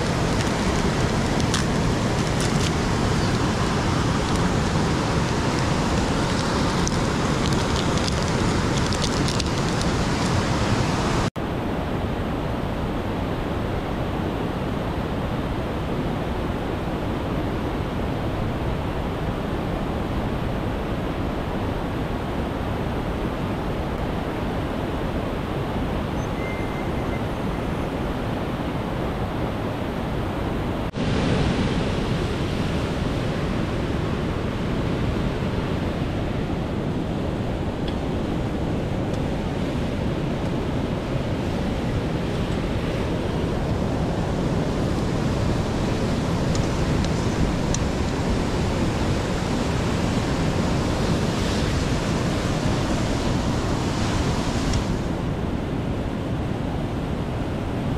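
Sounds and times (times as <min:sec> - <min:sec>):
river and waterfall rushing: 0:00.0 - 0:57.9.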